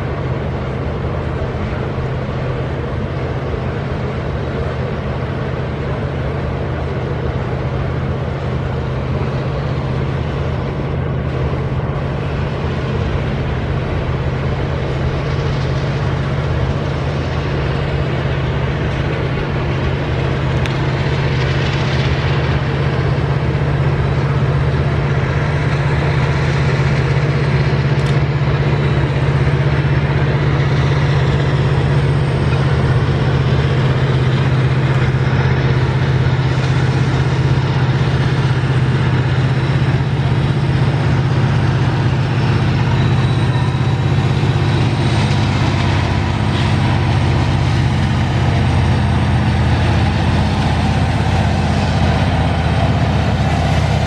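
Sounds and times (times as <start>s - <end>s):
diesel locomotive deep hum: 0.0s - 54.0s
train wagons rumbling on rails: 0.0s - 54.0s.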